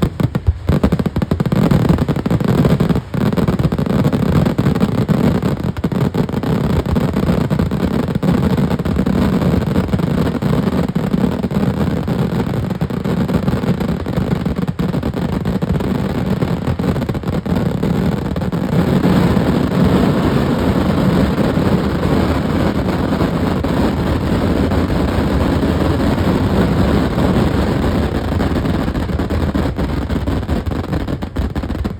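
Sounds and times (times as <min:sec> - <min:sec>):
fireworks barrage: 0:00.0 - 0:31.9.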